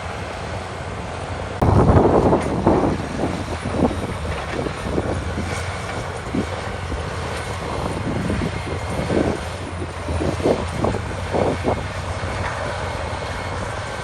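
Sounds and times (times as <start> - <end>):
bulldozer diesel engine drone: 0.0 - 14.0.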